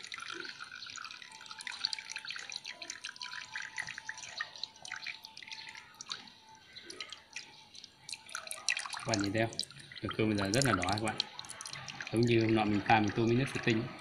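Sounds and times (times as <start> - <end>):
juice dripping through metal sieve: 0.0 - 14.0.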